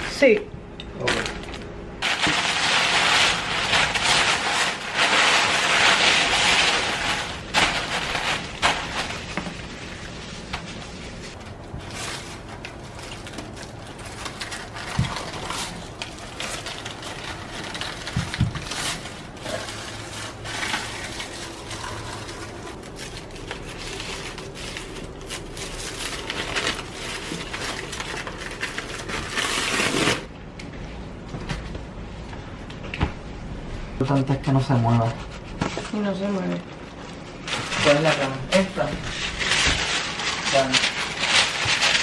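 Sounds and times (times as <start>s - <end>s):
packing paper rustling and crinkling: 1.0s - 30.3s, 34.9s - 42.0s.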